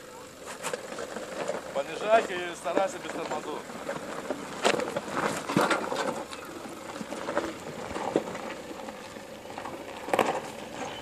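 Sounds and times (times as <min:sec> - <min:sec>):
car engine running low: 0:00.0 - 0:11.0
tyres crunching on rock: 0:00.4 - 0:11.0.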